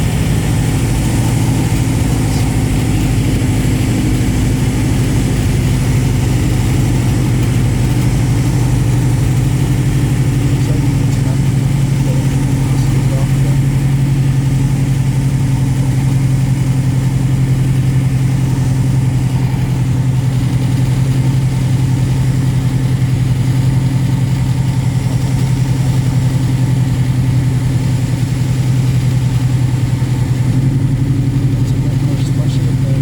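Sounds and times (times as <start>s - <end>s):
light aircraft engine drone: 0.0s - 33.0s.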